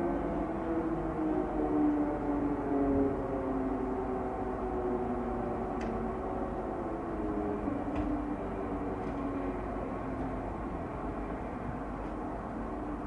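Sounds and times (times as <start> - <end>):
air raid siren wailing: 0.0 - 13.0.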